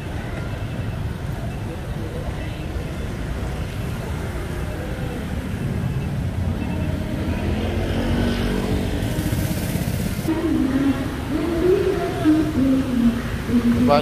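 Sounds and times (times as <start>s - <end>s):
low rumble of traffic: 0.0s - 14.0s
motorbike engines passing: 0.0s - 14.0s.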